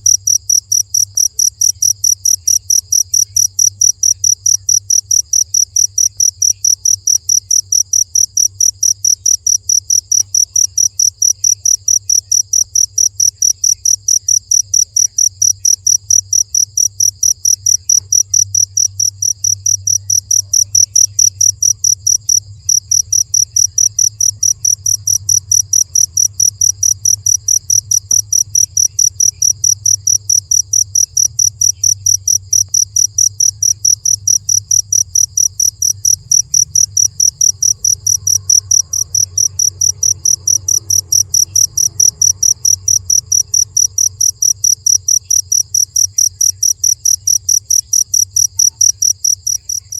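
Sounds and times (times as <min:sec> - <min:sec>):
cricket chirping: 0:00.0 - 0:49.9.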